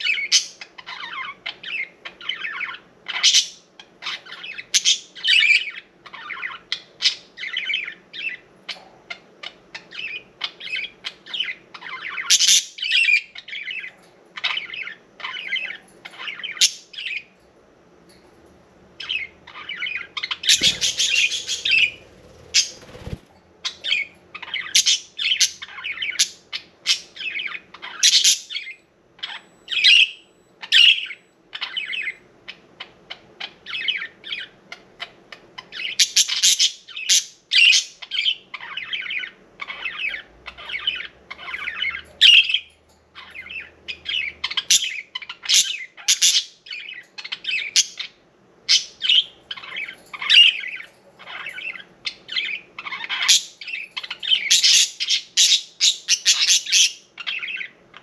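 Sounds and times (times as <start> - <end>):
budgerigars chirping and squawking: 0.0 - 17.5, 19.0 - 58.0.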